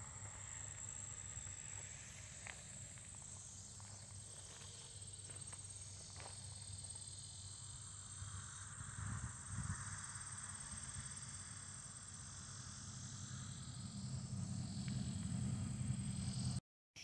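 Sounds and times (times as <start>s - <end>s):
cricket chorus trilling: 0.0s - 16.6s.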